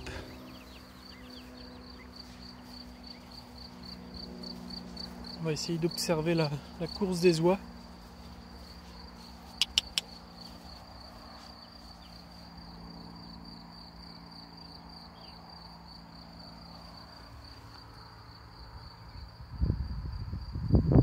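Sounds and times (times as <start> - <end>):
insect chirring: 0.0 - 19.4.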